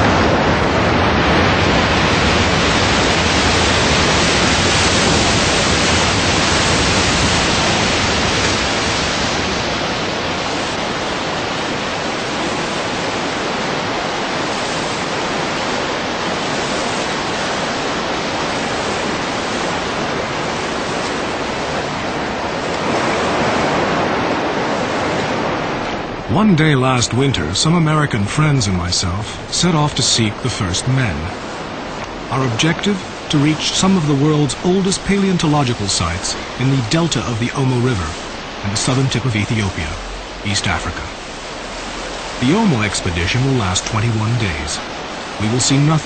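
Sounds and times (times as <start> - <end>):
river rapids rushing: 0.0 - 46.0.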